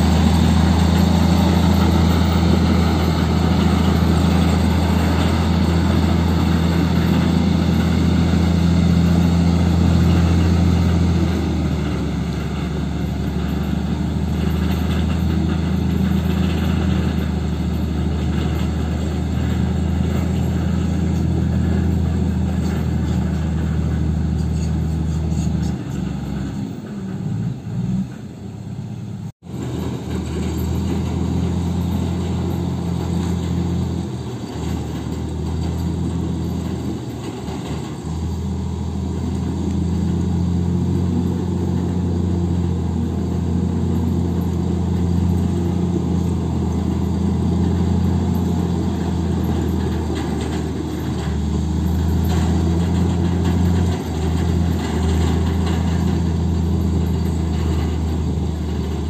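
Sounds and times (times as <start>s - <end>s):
bulldozer diesel engines droning: 0.0s - 59.0s.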